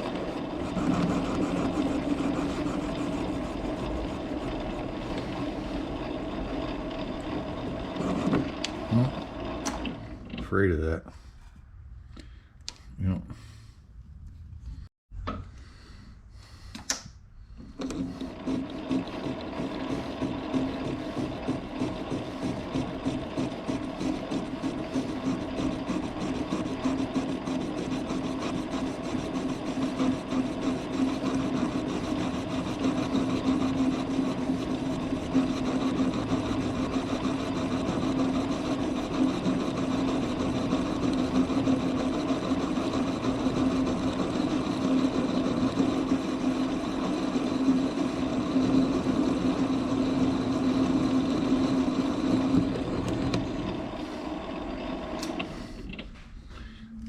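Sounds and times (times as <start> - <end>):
machine tool humming and chattering: 0.0 - 9.9, 17.9 - 55.5.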